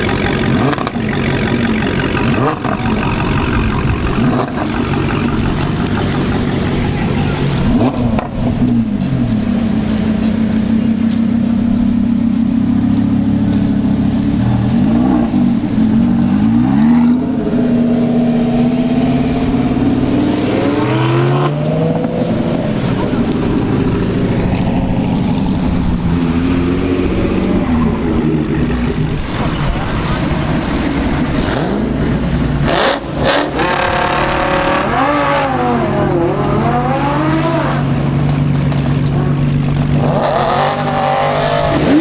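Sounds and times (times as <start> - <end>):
car engine idling with throttle blips: 0.0 - 42.0.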